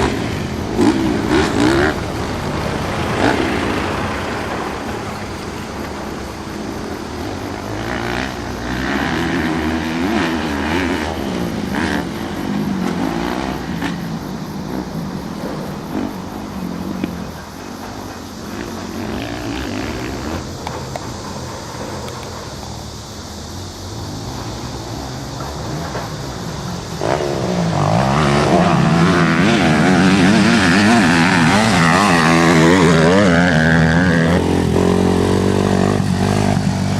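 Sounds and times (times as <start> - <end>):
dirt bike engine revving: 0.0 - 36.9
low engine hum: 0.0 - 36.9.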